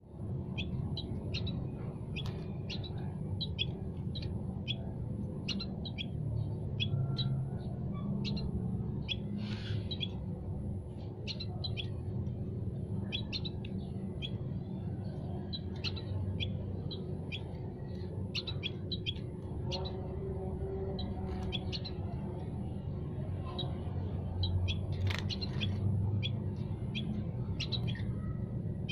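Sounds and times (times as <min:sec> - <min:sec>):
songbirds chirping: 0:00.0 - 0:28.9
steady low hum: 0:00.0 - 0:28.9.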